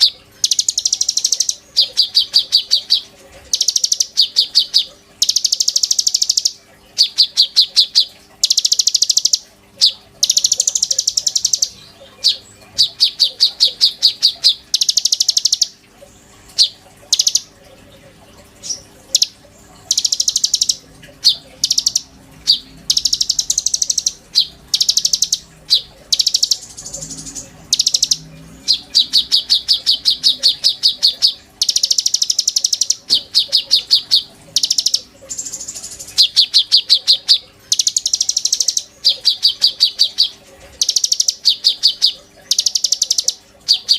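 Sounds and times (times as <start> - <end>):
songbird singing: 0.0 - 15.8, 16.5 - 43.9.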